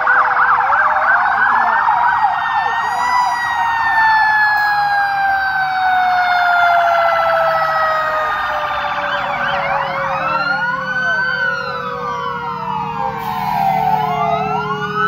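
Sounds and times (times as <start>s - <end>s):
siren winding down: 0.0s - 15.0s
sirens wailing: 0.0s - 15.0s.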